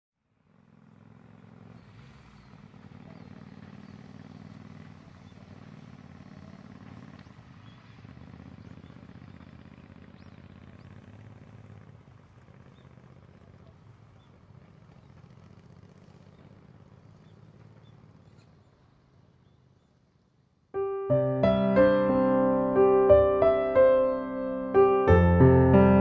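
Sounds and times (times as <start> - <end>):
motorcycles riding past: 0.3 - 26.0.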